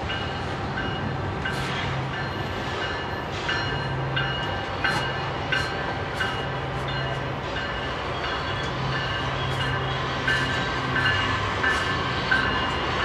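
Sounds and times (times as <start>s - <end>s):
locomotive engine hum: 0.0s - 13.0s.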